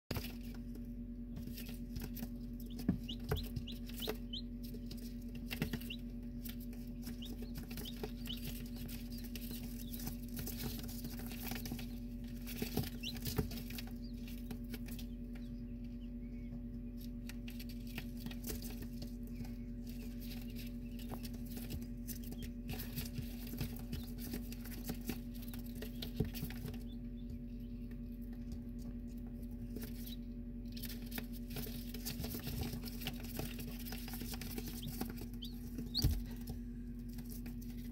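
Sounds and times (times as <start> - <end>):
chicks peeping: 0.1 - 37.9
steady low hum: 0.1 - 37.9.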